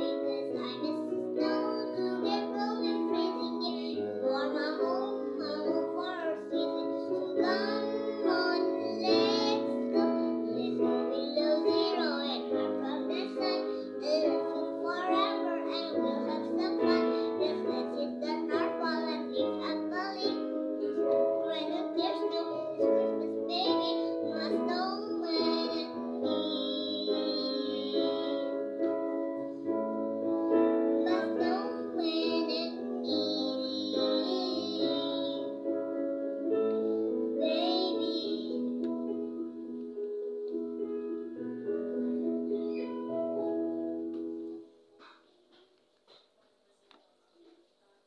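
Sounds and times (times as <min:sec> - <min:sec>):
girl singing: 0:00.0 - 0:40.0, 0:40.7 - 0:43.5.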